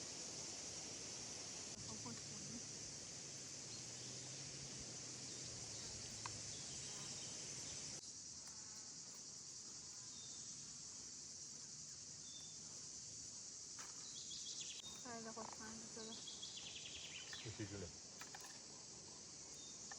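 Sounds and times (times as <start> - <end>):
insects chorus: 0.0 - 19.9.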